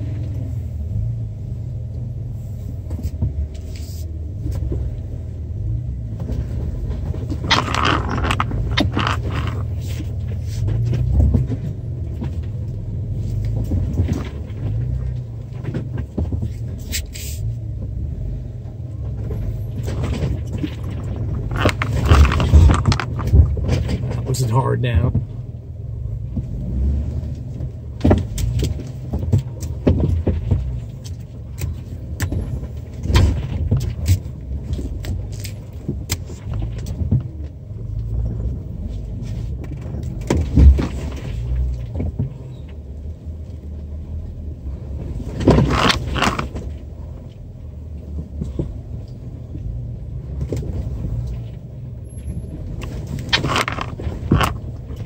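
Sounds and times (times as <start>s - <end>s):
engine and drivetrain rumble: 0.0s - 55.0s
knocks and rattles of vehicle body: 2.8s - 55.0s.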